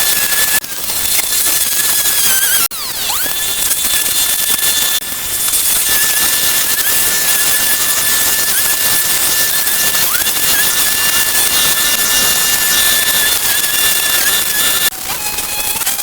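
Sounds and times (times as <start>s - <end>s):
high motor whine: 0.0s - 16.0s.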